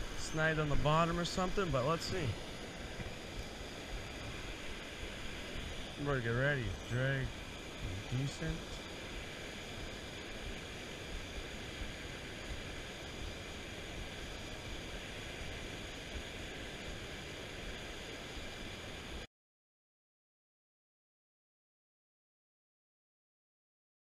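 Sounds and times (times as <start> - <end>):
river rushing over rocks: 0.0 - 19.2.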